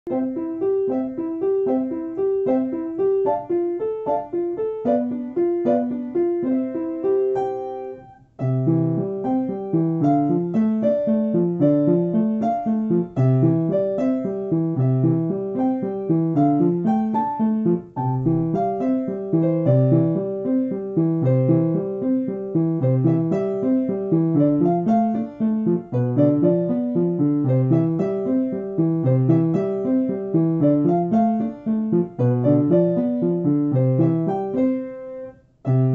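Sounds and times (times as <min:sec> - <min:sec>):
piano music: 0:00.0 - 0:35.9.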